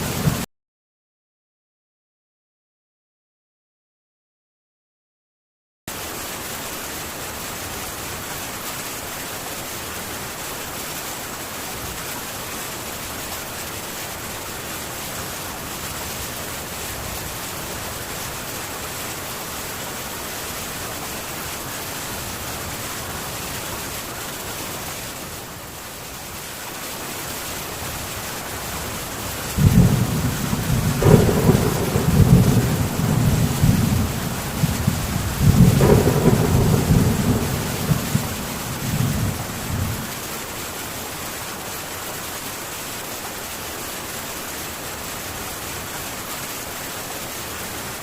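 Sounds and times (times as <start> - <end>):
heavy rain on a tin roof: 0.0 - 0.5, 5.9 - 48.0.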